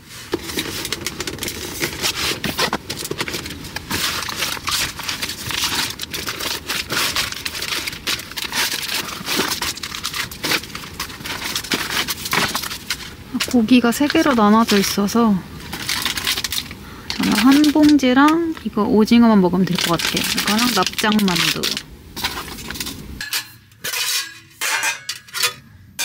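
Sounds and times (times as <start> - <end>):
plastic packaging crinkling: 0.0 - 23.2.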